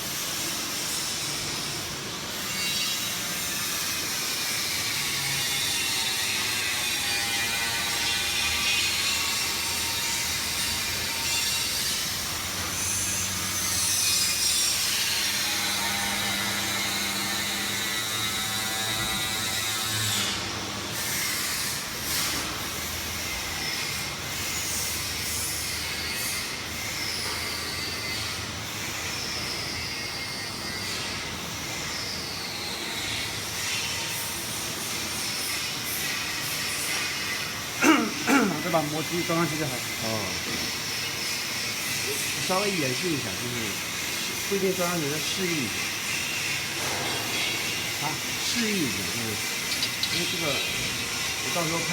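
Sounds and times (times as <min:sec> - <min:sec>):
machine rattle and hiss: 0:00.0 - 0:51.9.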